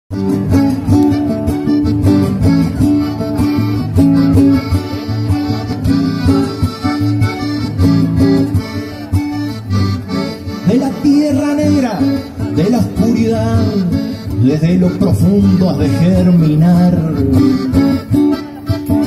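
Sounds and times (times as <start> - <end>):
accordion: 0.1 - 19.0
strummed acoustic guitar: 0.1 - 19.0.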